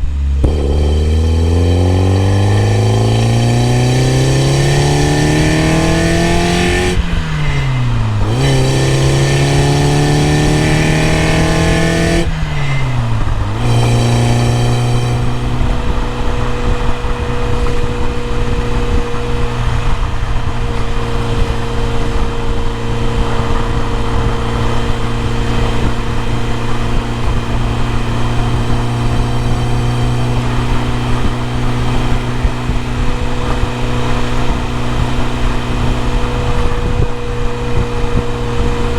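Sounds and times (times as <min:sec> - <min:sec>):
car engine revving and upshifting: 0:00.0 - 0:38.9
road noise: 0:00.0 - 0:38.9.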